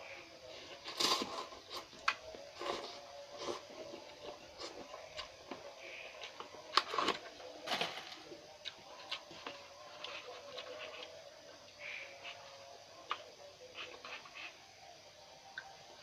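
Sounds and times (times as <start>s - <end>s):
chewing noodles: 0.7s - 7.5s, 8.5s - 14.6s.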